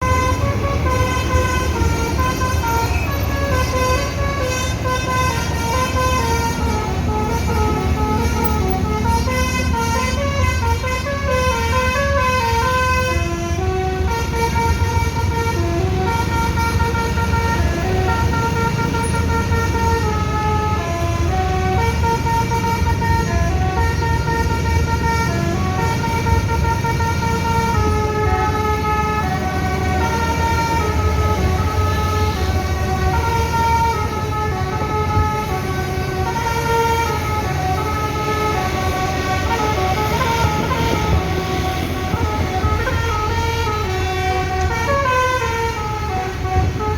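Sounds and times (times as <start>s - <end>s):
multi-tone bus horn melody: 0.0s - 46.9s.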